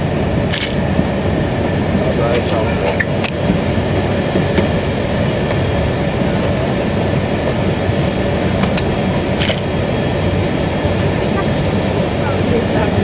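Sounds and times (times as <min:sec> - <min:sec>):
aircraft engine and rolling noise: 0:00.0 - 0:13.0.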